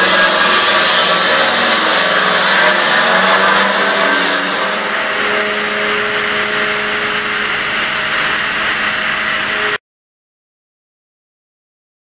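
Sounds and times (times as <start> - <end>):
circular saw cutting log: 0.0 - 9.8.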